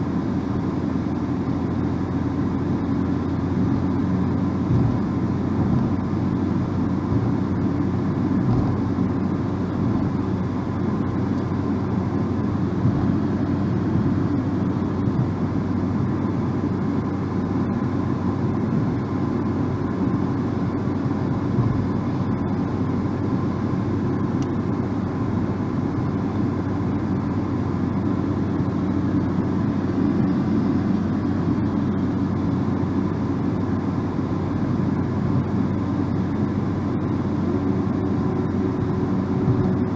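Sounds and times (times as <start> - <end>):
faint engine hum: 0.0 - 39.9
tyre and road noise: 3.4 - 39.9.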